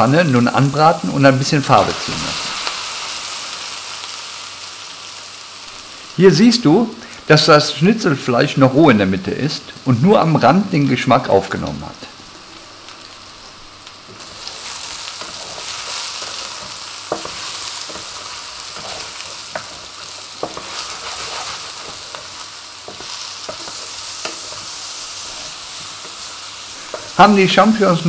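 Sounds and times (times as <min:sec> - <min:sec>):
mushrooms sizzling in a pan: 0:00.0 - 0:28.0.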